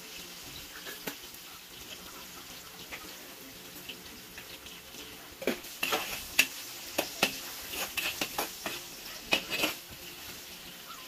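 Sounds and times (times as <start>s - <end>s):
food sizzling: 0.0s - 11.0s
utensil scraping cooking pan: 0.1s - 10.9s.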